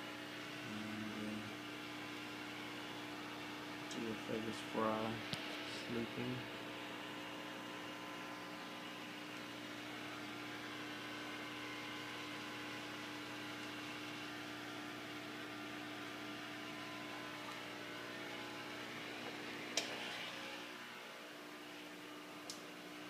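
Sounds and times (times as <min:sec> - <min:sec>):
aquarium pump humming: 0:00.0 - 0:23.0.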